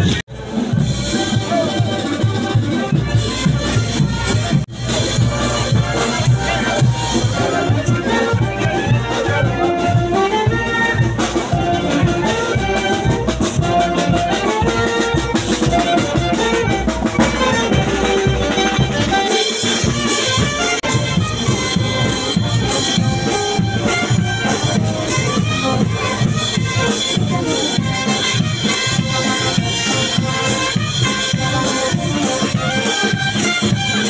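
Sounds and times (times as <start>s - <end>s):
brass band playing: 0.0s - 34.0s
drum beat: 0.0s - 34.0s.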